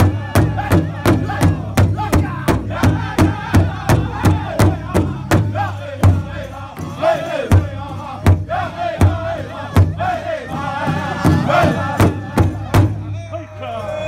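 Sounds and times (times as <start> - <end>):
large drum beating: 0.0 - 13.2
men chanting: 0.0 - 14.0.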